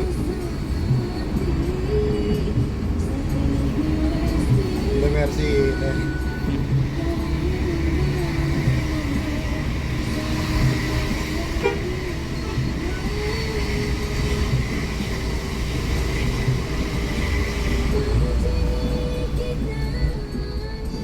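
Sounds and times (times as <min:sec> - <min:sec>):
bus diesel engine droning: 0:00.0 - 0:21.0
road noise: 0:00.0 - 0:21.0.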